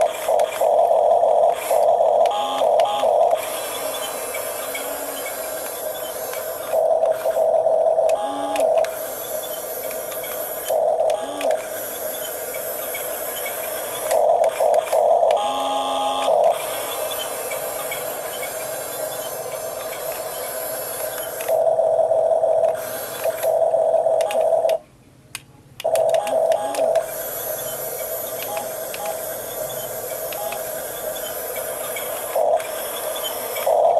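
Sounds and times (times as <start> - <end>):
toy electric motors whining: 0.0 - 24.8, 25.8 - 33.9.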